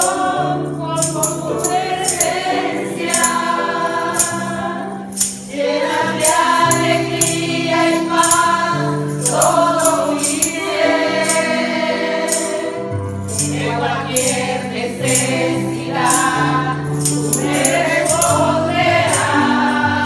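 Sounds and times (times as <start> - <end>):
tambourine struck on the beat: 0.0 - 20.0
voices singing praise song: 0.0 - 20.0.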